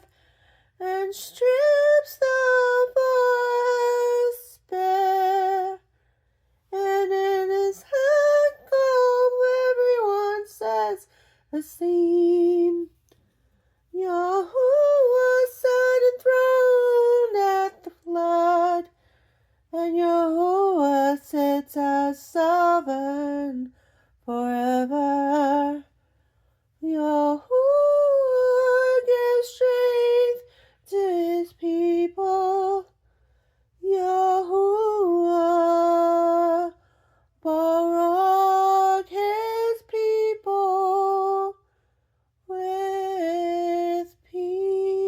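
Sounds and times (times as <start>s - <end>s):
woman singing unaccompanied: 0.8s - 5.9s, 6.6s - 13.0s, 13.9s - 19.0s, 19.7s - 26.0s, 26.8s - 33.0s, 33.8s - 36.8s, 37.4s - 41.6s, 42.4s - 45.0s.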